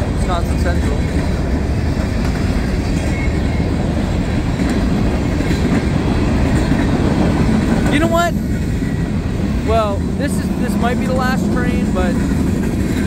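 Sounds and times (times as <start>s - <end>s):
freight train wheels clattering: 0.0s - 13.0s.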